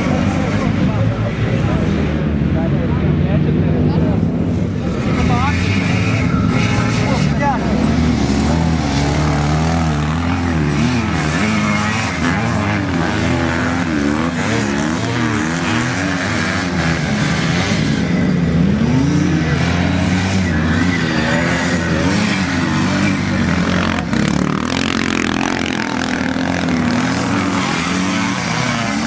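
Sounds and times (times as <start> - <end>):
motorcycle engines racing: 0.0 - 29.0.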